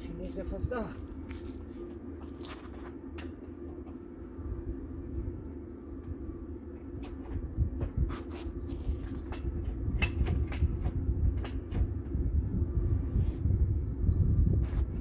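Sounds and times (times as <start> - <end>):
low hum and rumble: 0.0 - 15.0.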